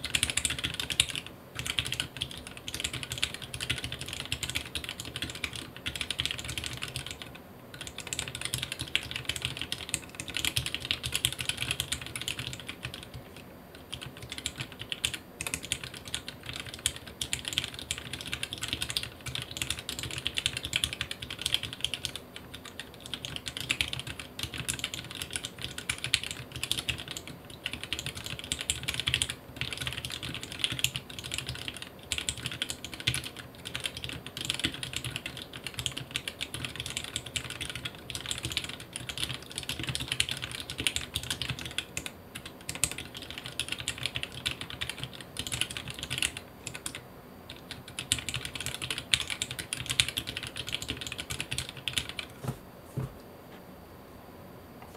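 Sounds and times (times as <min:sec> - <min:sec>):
mechanical keyboard typing: 0:00.0 - 0:52.4.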